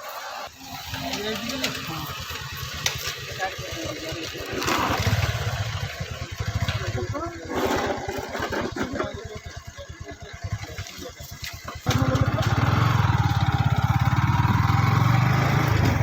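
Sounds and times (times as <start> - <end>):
motorcycle engine revving: 0.1 - 16.0.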